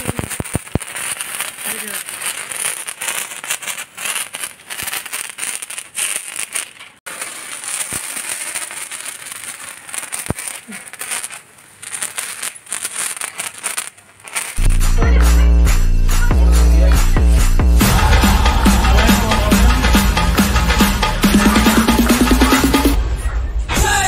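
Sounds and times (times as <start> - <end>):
sparkler fizzing and crackling: 0.0 - 23.0.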